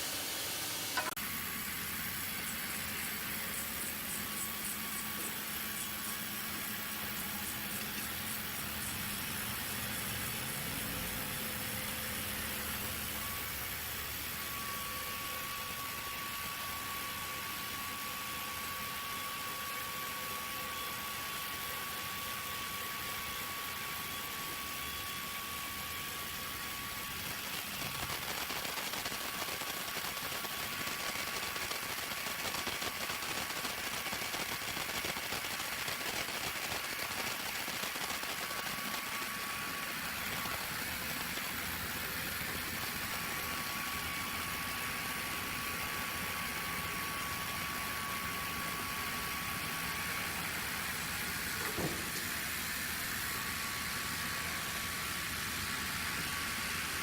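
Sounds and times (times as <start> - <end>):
machinery running with high whine: 0.0 - 57.0.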